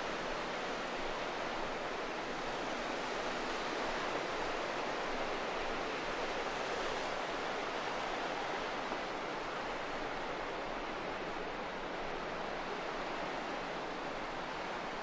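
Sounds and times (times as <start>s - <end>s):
sea surf washing along shore: 0.0s - 15.0s.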